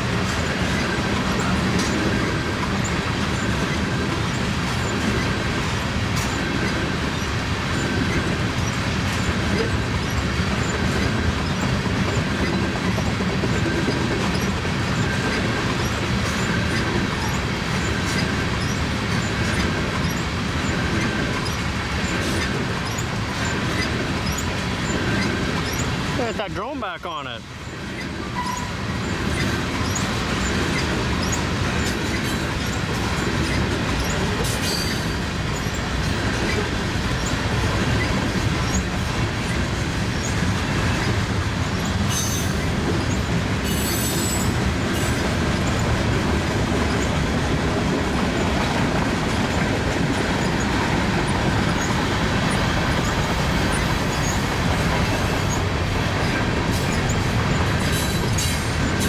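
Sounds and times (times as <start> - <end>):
freight train rumbling past: 0.0 - 59.0
wheel squeals: 6.2 - 26.0, 27.6 - 45.9, 46.9 - 47.2, 49.4 - 59.0.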